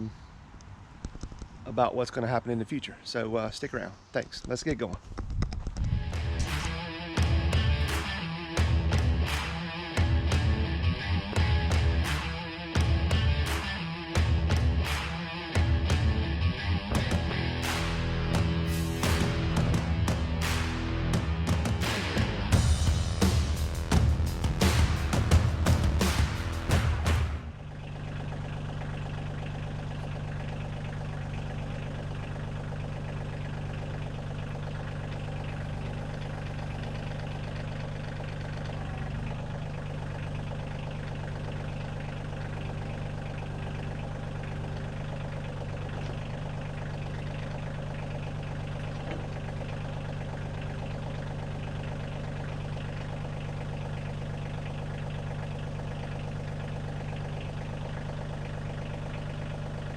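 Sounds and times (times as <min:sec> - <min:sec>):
diesel tractor engine idling: 0:06.0 - 0:59.9.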